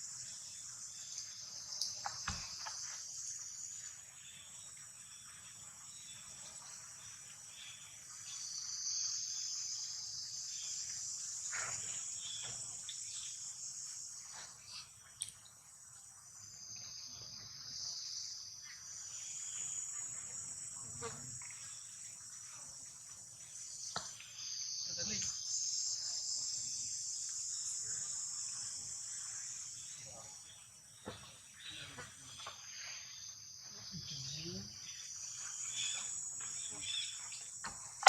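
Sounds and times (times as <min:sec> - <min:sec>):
crickets or cicadas chirring: 0:00.0 - 0:38.0.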